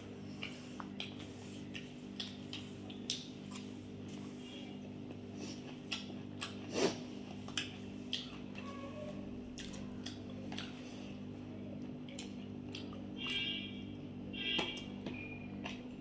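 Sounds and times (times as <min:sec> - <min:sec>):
person chewing food: 0:00.0 - 0:08.7, 0:09.4 - 0:16.0.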